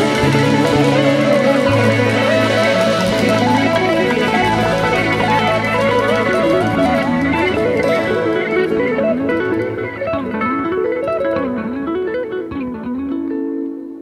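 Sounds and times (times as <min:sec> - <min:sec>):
fast guitar melody over chords: 0:00.0 - 0:14.0.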